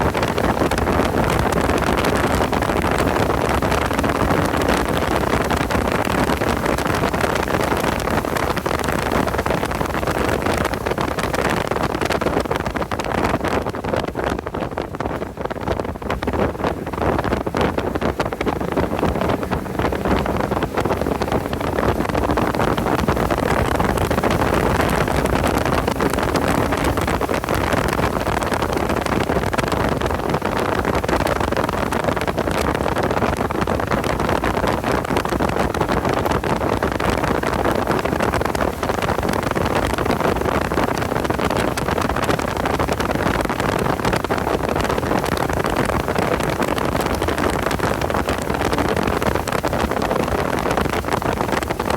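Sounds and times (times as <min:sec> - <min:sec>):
car engine running hard: 0:00.0 - 0:51.9
wind and road noise: 0:00.0 - 0:51.9.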